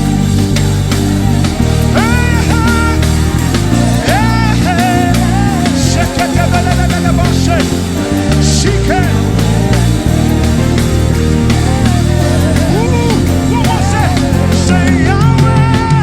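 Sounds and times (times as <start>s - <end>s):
drums: 0.0s - 16.0s
lead melody with pitch bends: 0.0s - 16.0s
low chords: 0.0s - 16.0s.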